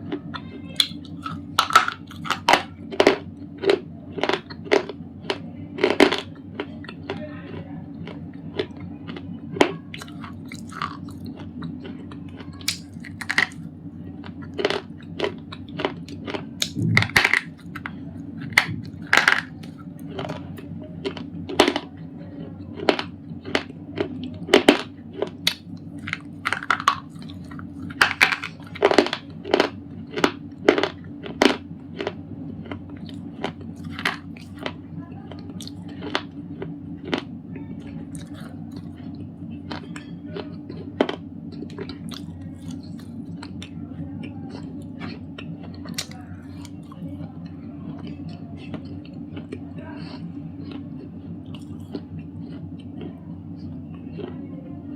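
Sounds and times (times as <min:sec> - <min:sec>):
low background hum: 0:00.0 - 0:54.9.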